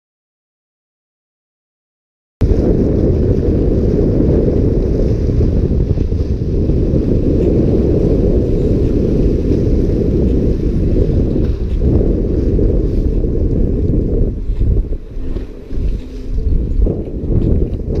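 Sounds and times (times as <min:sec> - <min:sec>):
waves washing over rocks: 0:02.4 - 0:18.0
wind buffeting microphone: 0:02.4 - 0:18.0.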